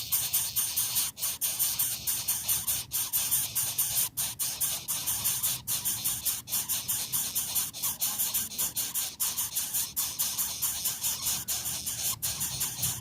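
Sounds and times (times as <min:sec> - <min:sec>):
pulsing high-pitched hiss: 0:00.0 - 0:13.0.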